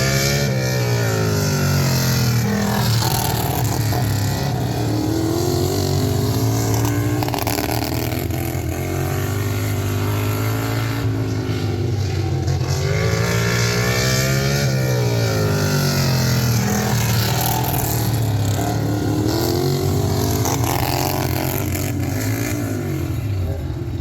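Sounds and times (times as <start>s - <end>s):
racing lawn tractor engines: 0.0s - 24.0s.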